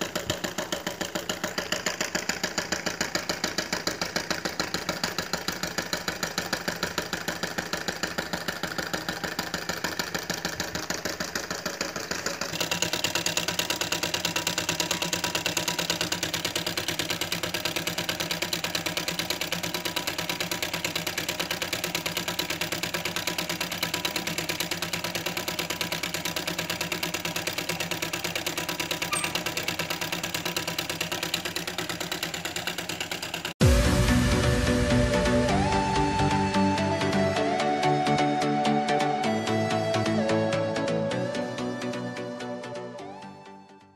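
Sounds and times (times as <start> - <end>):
small steam engine running: 0.0 - 43.2.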